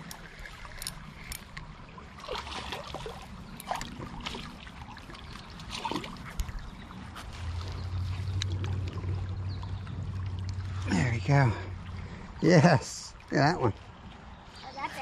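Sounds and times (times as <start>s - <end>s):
creek water trickling: 0.0s - 15.0s
water drips and splashes: 0.0s - 15.0s.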